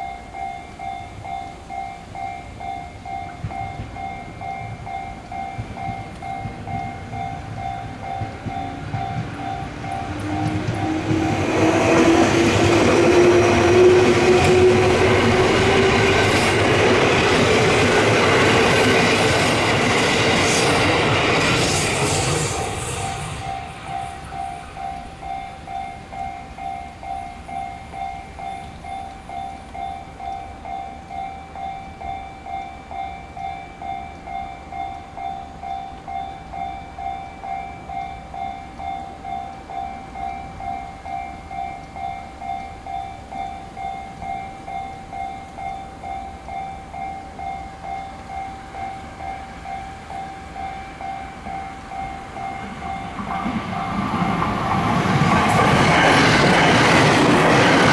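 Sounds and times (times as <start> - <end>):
level-crossing warning bell: 0.0 - 57.9.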